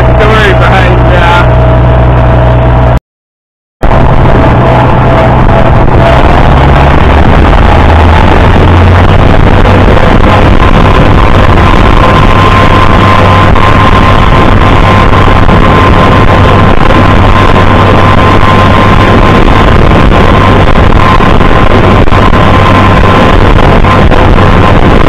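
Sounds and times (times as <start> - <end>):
steady whine: 0.0 - 3.0, 3.8 - 25.0
tractor engine running: 0.0 - 3.0, 3.8 - 25.0.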